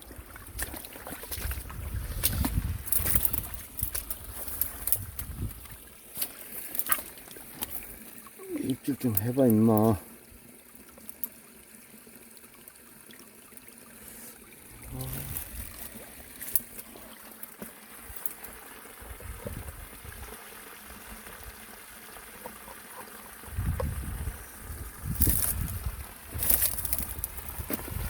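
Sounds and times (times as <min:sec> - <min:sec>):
water flowing over a weir: 0:00.0 - 0:28.0.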